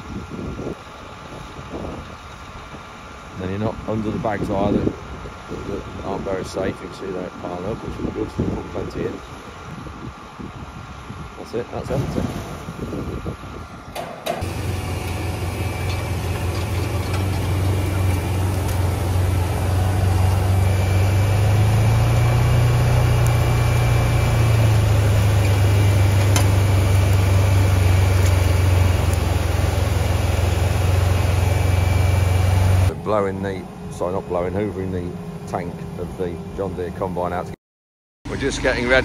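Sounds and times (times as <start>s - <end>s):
heavy farm machine engine running: 0.0s - 37.4s, 38.3s - 39.0s.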